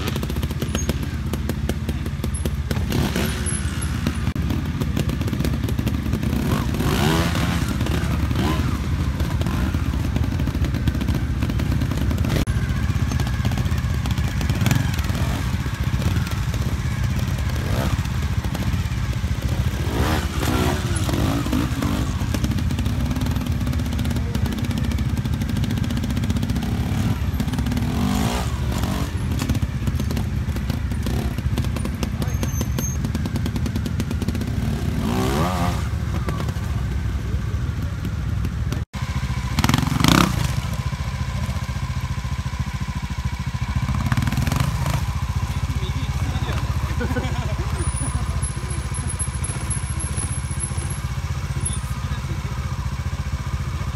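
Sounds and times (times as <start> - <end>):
motorcycle engine with throttle blips: 0.0 - 53.9.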